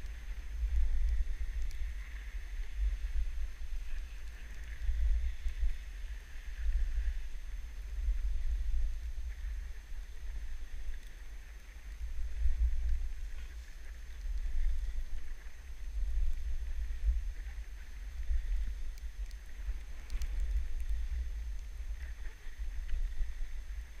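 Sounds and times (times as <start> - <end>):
skis sliding over snow: 0.0 - 24.0
wind buffeting microphone: 0.0 - 24.0.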